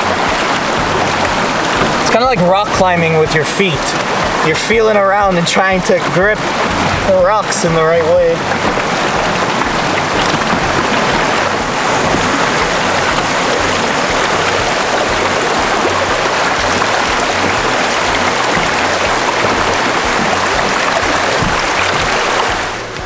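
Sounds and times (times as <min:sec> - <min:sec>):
river rapids rushing over rocks: 0:00.0 - 0:23.0.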